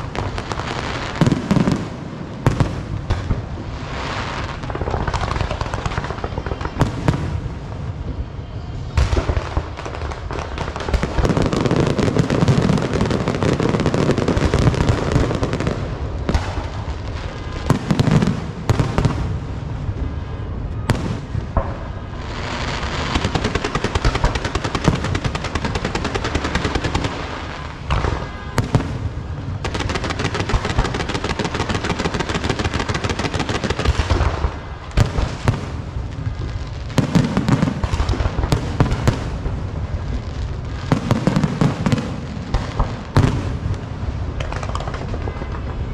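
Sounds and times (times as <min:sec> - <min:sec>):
firecrackers crackling: 0:00.0 - 0:45.9
firework booms: 0:00.0 - 0:45.9.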